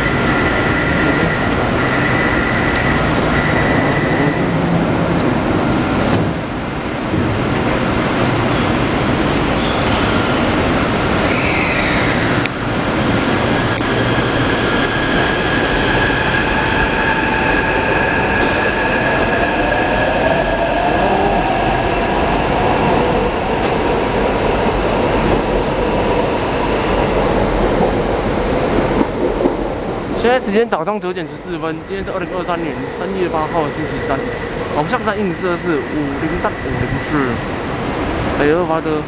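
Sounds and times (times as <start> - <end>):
train wheels rumbling on rails: 0.0 - 30.4, 31.1 - 39.0
train traction motor whine: 0.0 - 39.0.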